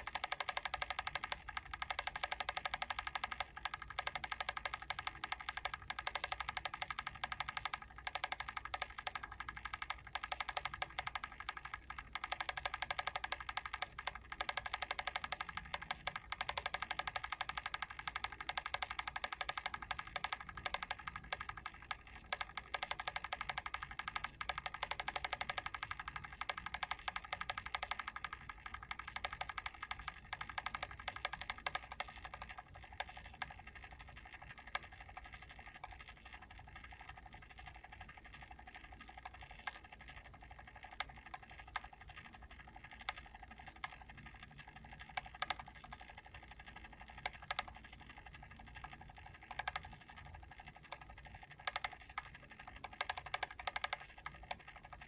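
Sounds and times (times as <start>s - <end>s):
mechanical timer switch clicking: 0.0s - 55.0s.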